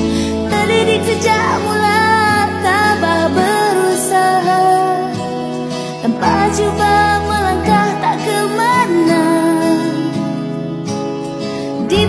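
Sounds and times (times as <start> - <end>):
song with singing voice: 0.0 - 12.0.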